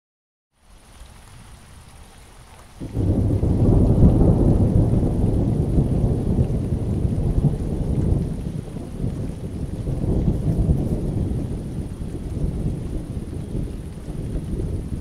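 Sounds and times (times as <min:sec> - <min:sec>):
rain on wet pavement: 0:00.6 - 0:15.0
deep rumble of thunder: 0:02.8 - 0:15.0.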